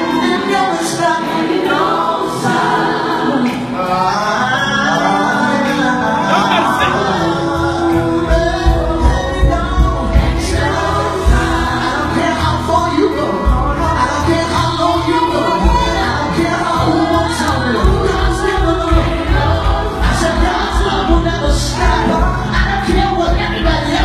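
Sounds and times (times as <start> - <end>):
band with pulsing bass: 0.0 - 24.0
men singing gospel: 0.0 - 24.0.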